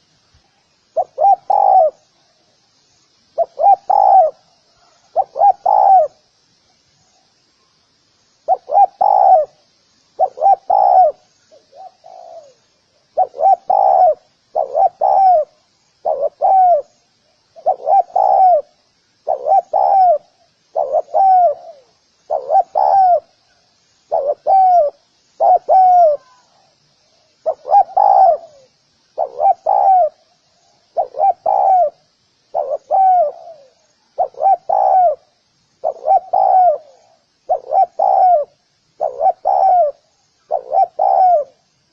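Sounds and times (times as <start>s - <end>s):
faint high hiss: 0.0s - 41.9s
dove cooing: 1.0s - 2.0s, 3.4s - 6.2s, 8.5s - 9.6s, 10.2s - 16.9s, 17.6s - 26.7s, 27.4s - 30.3s, 30.9s - 41.6s.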